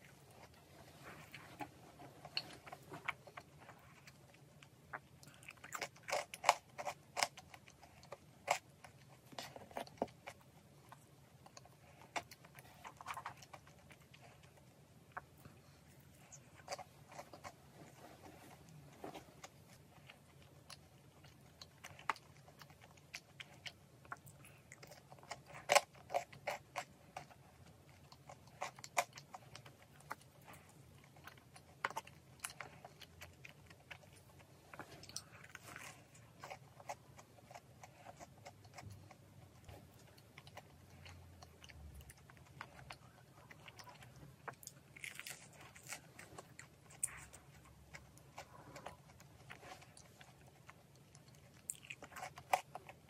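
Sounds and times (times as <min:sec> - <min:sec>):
crunchy chewing and biting: 0:00.0 - 0:53.0.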